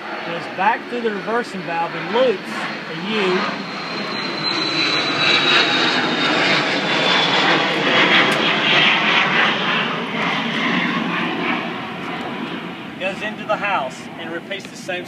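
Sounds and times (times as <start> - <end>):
aircraft passing overhead: 0.0 - 15.0
high whine falling in pitch: 0.0 - 15.0.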